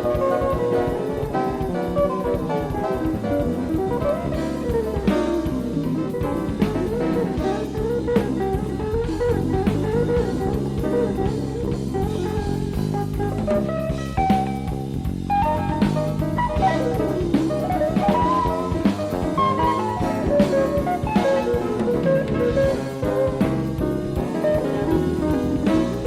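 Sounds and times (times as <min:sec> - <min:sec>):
electric guitar lead line: 0:00.0 - 0:26.0
jazz fusion band playing: 0:00.0 - 0:26.0.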